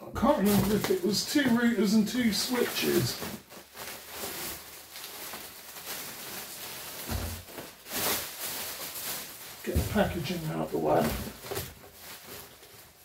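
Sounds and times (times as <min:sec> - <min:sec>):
plastic bags rustling: 0:00.1 - 0:13.0.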